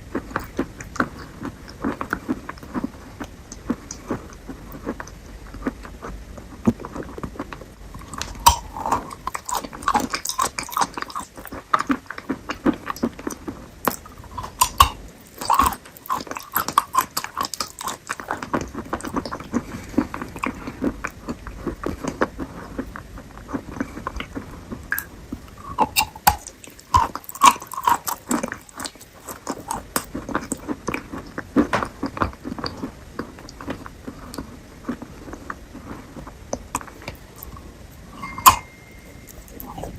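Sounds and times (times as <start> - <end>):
biting and chewing fruit: 0.0 - 39.9.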